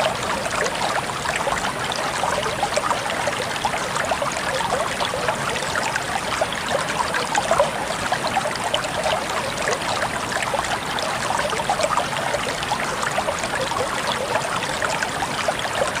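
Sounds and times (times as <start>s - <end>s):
river water babbling: 0.0s - 16.0s.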